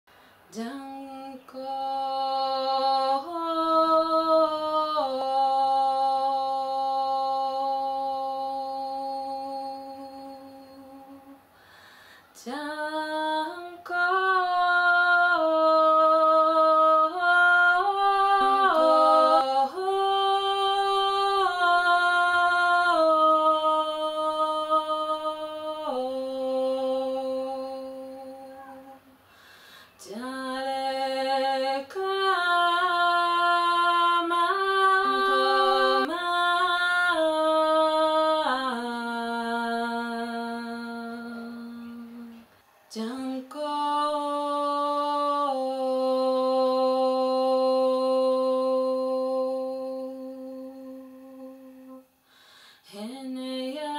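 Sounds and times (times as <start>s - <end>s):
woman singing unaccompanied chant: 0.5s - 11.5s, 12.3s - 29.3s, 29.9s - 52.1s, 52.8s - 53.9s.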